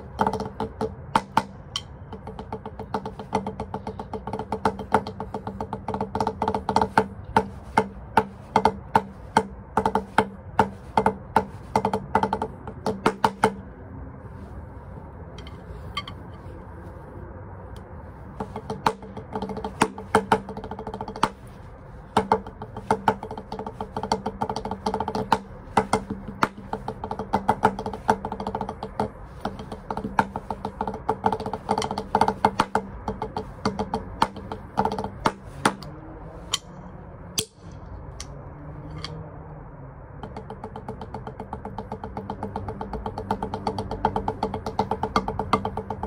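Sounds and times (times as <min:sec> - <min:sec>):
drumsticks tapping practice pad: 0:00.0 - 0:13.7, 0:15.4 - 0:16.5, 0:17.7 - 0:38.3, 0:38.9 - 0:39.2, 0:40.2 - 0:46.0.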